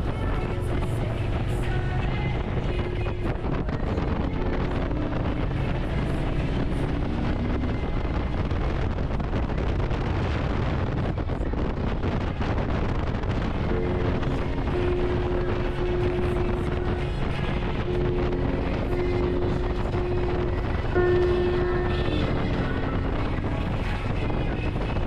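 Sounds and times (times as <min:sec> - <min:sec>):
motorcycle engine drone: 0:00.0 - 0:25.0
wind rush over microphone: 0:00.0 - 0:25.0.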